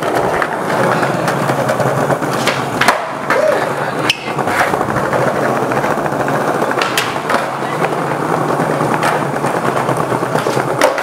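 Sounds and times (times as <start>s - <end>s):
skateboard clacks: 0.0s - 11.0s
skateboard wheels rolling on tiles: 0.0s - 11.0s.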